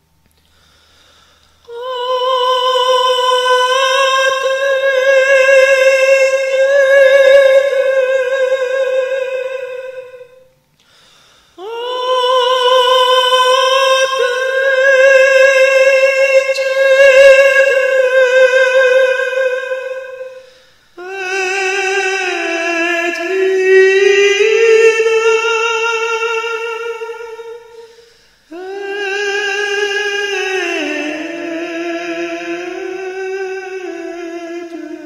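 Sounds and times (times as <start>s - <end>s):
high voice singing a lament: 1.6s - 10.6s, 11.6s - 35.0s.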